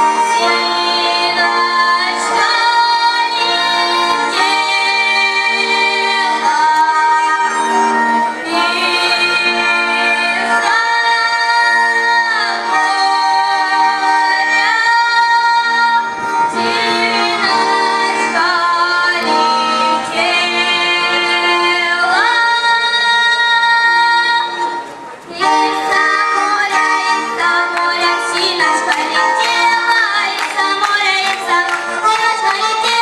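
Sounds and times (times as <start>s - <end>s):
child singing folk song: 0.0s - 33.0s
instrumental accompaniment: 0.0s - 33.0s.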